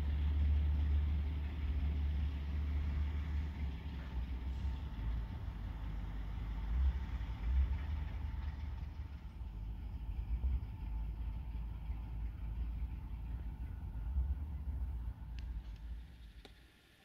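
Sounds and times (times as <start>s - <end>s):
diesel locomotive idling: 0.0s - 17.0s
faint steady hum: 0.0s - 17.0s.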